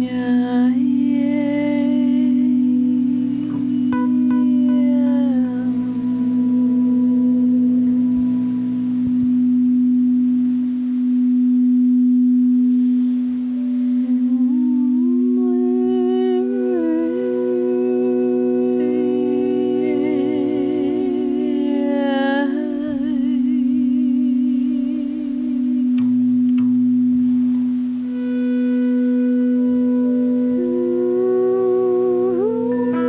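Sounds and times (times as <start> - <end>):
higher sustained tones: 0.0 - 33.0
low drone note: 0.0 - 33.0.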